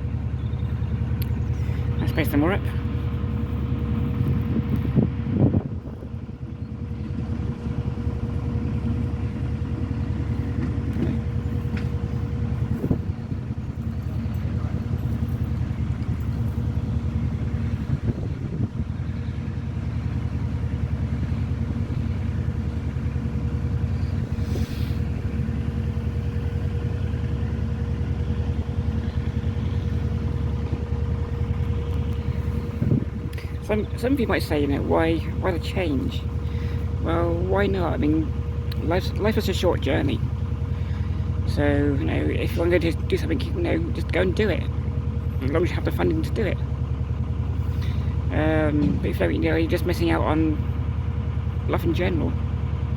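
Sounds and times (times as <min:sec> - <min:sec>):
diesel engine droning: 0:00.0 - 0:52.9.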